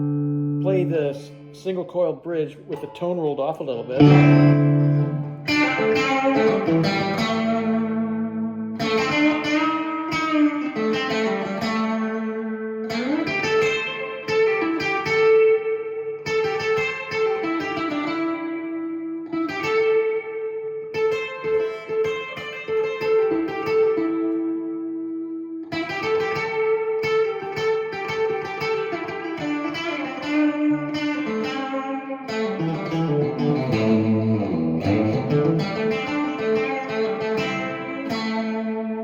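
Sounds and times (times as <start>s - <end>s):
clean electric guitar riff: 0.0s - 39.0s.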